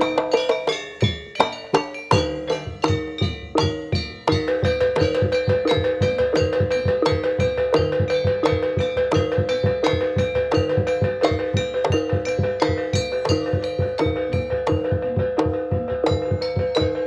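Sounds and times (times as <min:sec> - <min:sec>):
fast drum strokes: 0:00.0 - 0:17.0
gamelan ensemble playing: 0:00.0 - 0:17.0
struck metal pitched notes: 0:01.6 - 0:17.0.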